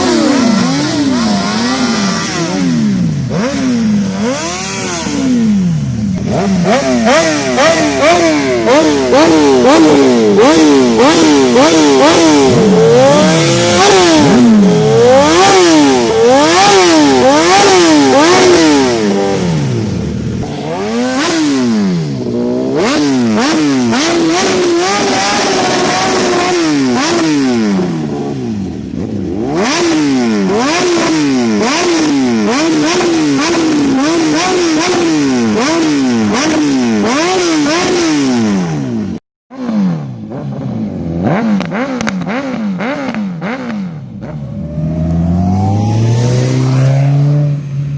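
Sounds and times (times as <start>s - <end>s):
motorcycle engine revving hard: 0.0s - 47.9s.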